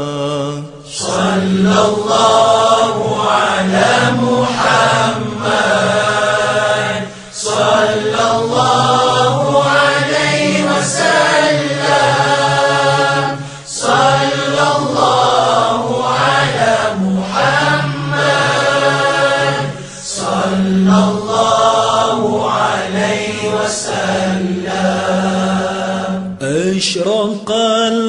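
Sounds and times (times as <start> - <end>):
devotional chant singing: 0.0 - 28.0.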